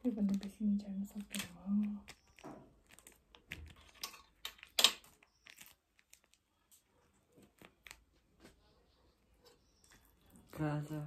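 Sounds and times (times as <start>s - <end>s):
crinkling and rustling: 0.0s - 10.7s.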